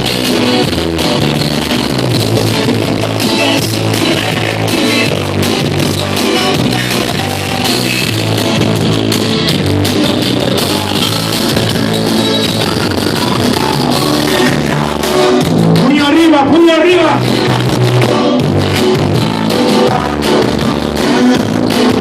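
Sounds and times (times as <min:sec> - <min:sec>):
loud dance music: 0:00.0 - 0:22.0.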